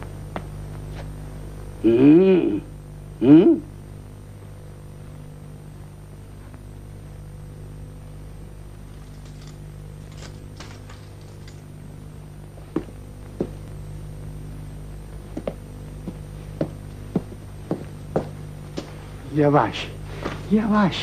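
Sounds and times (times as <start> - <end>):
mains hum: 0.0 - 21.0.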